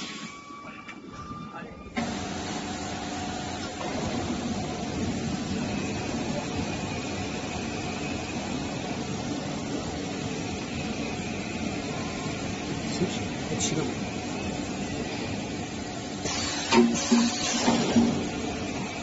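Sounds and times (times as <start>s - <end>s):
machine power unit humming: 1.8s - 19.0s.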